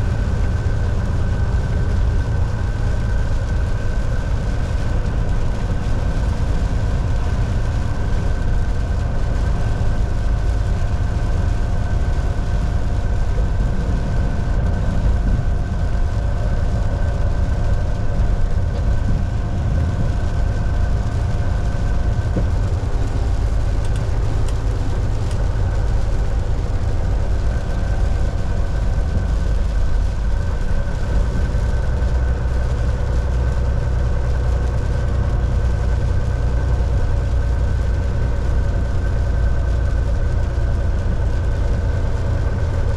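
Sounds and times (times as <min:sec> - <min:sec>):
road noise: 0:00.0 - 0:42.9
truck engine drone: 0:00.0 - 0:42.9.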